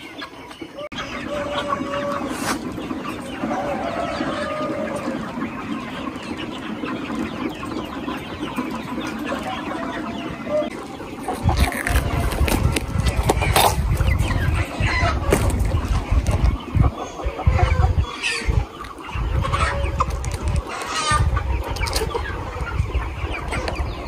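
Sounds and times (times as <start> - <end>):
chicks clucking and cheeping: 0.0 - 24.0.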